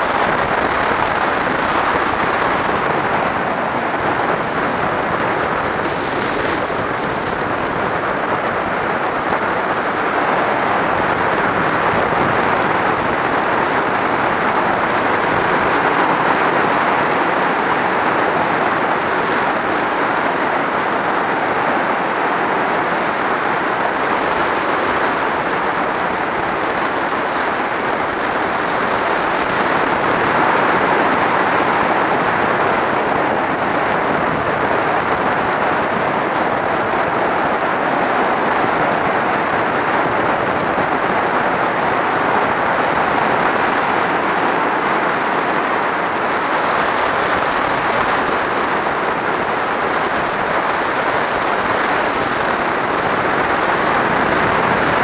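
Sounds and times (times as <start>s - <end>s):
wind rush over camera: 0.0s - 55.0s.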